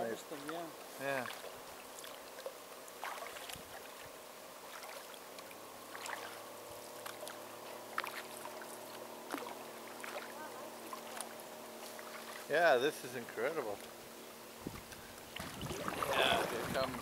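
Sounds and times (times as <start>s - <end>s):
faint steady hum: 0.0s - 17.0s
water washing along hull: 0.2s - 14.0s, 14.6s - 17.0s
water dripping and splashing: 0.3s - 12.5s, 14.8s - 17.0s
kayak paddle strokes in water: 0.3s - 14.0s, 14.7s - 17.0s.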